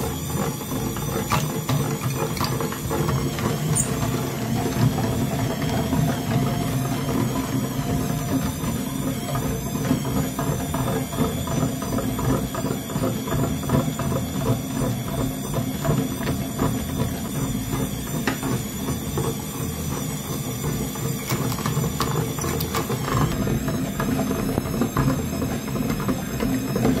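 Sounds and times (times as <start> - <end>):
meat grinder motor hum: 0.0 - 27.0.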